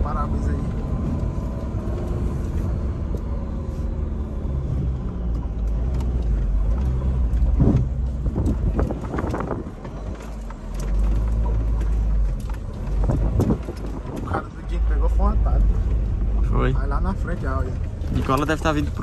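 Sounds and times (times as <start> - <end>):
car engine running under load: 0.0 - 19.0.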